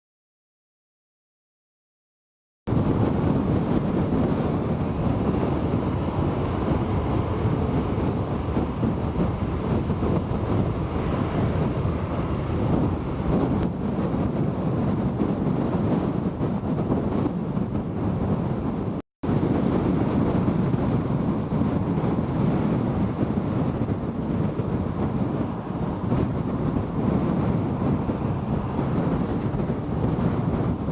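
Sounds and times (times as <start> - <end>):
strong wind buffeting microphone: 2.7 - 30.9.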